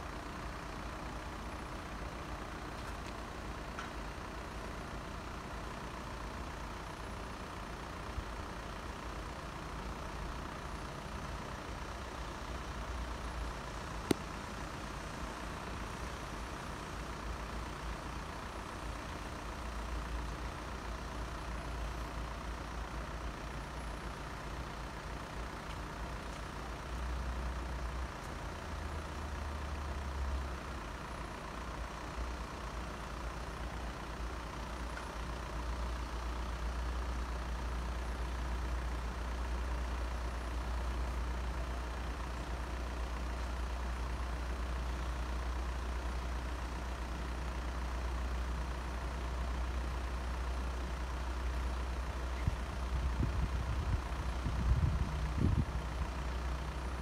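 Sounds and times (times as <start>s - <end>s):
vehicles idling rumble: 0.0s - 57.0s.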